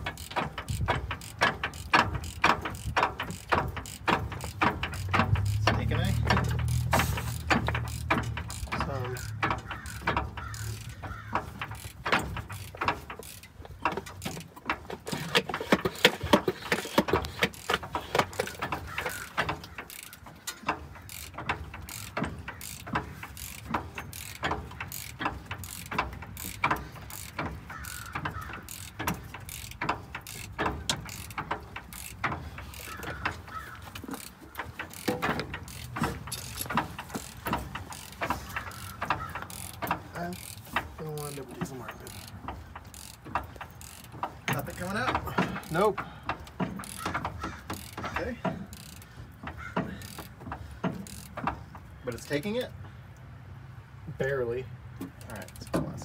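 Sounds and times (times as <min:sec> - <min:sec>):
ratchet wrench clicking: 0:00.0 - 0:53.3, 0:55.0 - 0:55.8
metal clicks and knocks: 0:00.0 - 0:53.4, 0:54.1 - 0:56.0.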